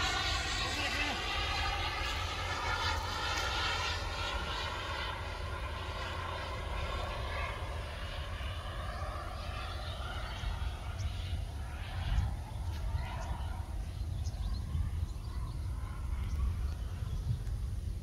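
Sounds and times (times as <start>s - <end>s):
model jet turbine whine: 0.0s - 18.0s.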